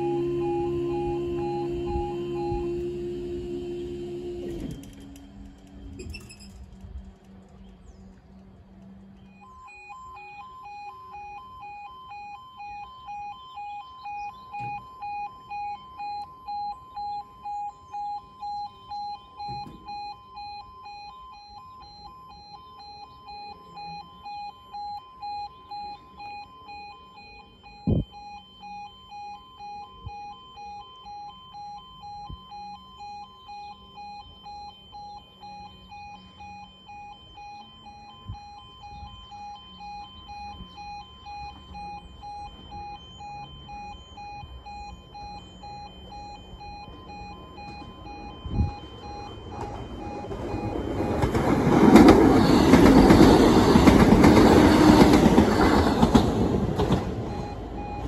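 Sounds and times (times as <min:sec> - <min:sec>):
level crossing alarm two tones: 0:00.0 - 0:05.0, 0:09.3 - 0:58.0.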